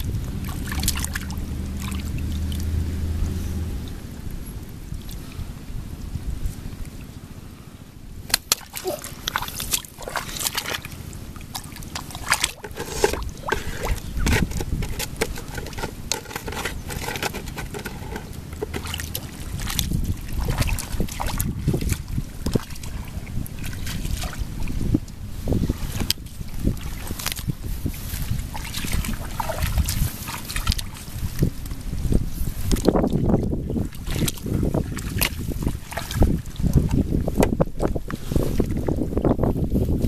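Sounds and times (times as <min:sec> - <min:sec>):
hands splashing in muddy water: 0:00.0 - 0:02.9, 0:08.2 - 0:25.0, 0:25.8 - 0:31.8, 0:32.4 - 0:39.3
wind rumble on microphone: 0:00.0 - 0:08.3, 0:09.1 - 0:40.0.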